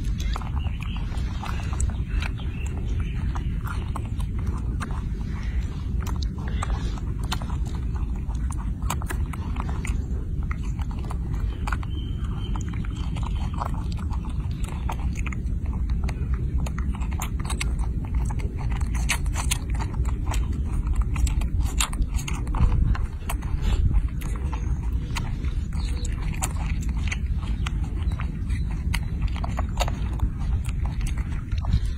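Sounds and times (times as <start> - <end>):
low rumble: 0.0 - 31.9
monkey chewing wet smacks: 0.0 - 31.9.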